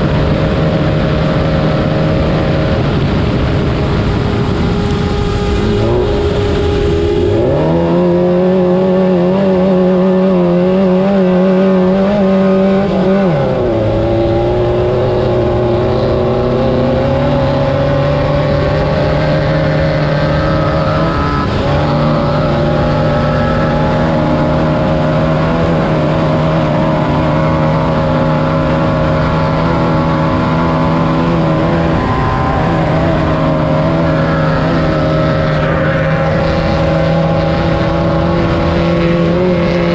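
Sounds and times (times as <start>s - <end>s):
race car engine revving: 0.0s - 39.9s
wind noise: 0.0s - 39.9s.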